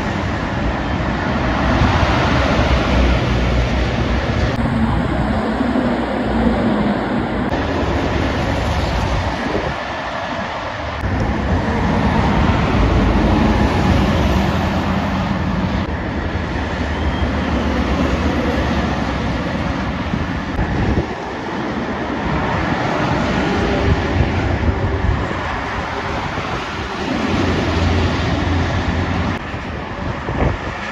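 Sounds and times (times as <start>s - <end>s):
truck diesel engines rumbling: 0.0s - 30.9s.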